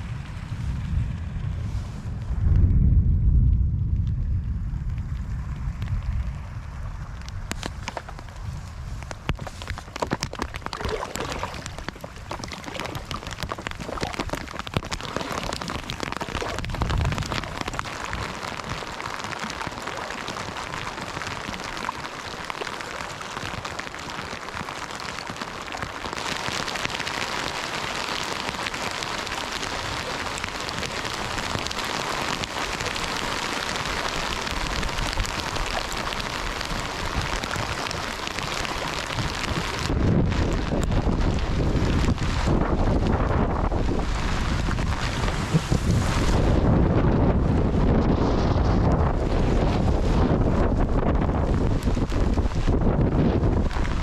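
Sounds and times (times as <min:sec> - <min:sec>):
water pattering: 0:07.2 - 0:54.0.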